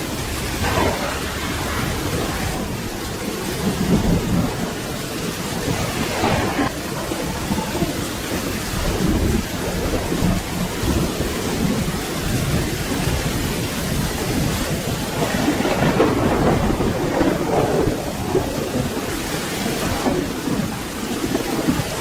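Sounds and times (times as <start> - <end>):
rolling thunder rumbling: 0.0 - 22.0
steady rain: 0.0 - 22.0.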